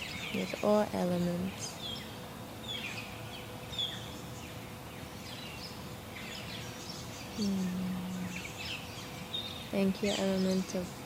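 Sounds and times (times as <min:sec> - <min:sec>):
birds chirping and trilling: 0:00.0 - 0:11.0
faint steady hiss: 0:00.0 - 0:11.0
low hum: 0:00.0 - 0:11.0.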